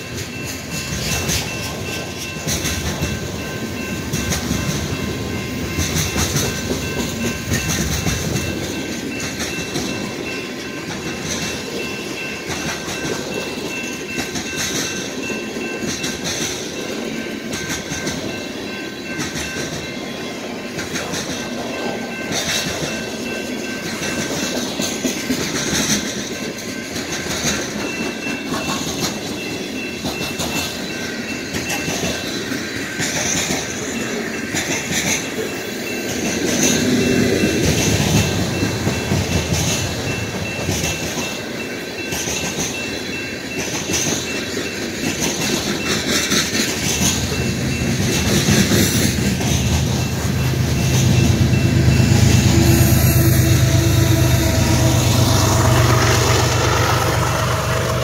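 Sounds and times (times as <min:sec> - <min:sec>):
freight train wheels rumbling: 0:00.0 - 0:58.0
wheels clicking over rail joints: 0:00.0 - 0:58.0.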